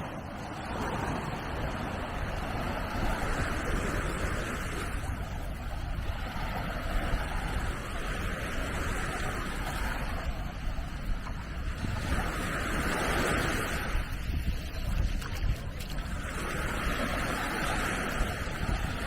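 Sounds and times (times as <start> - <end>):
small waves washing onto beach: 0.0 - 19.0
wind rumble on microphone: 0.0 - 19.0.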